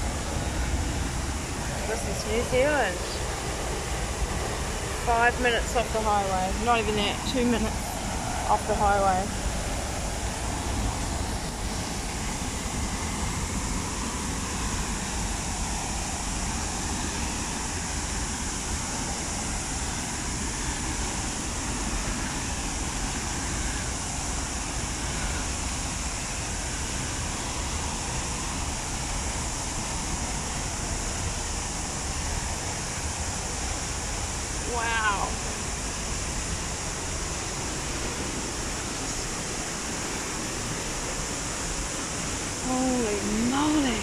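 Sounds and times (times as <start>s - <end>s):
rush of white water: 0.0s - 44.0s.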